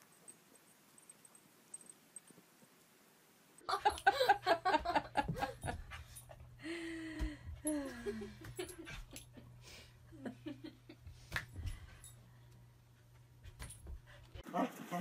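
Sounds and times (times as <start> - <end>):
low steady hum: 0.0 - 14.4.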